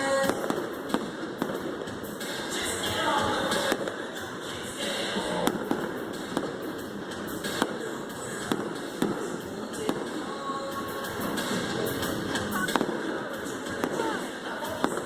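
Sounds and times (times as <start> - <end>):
crowd noise: 0.0 - 15.0
fireworks bangs and pops: 0.0 - 15.0.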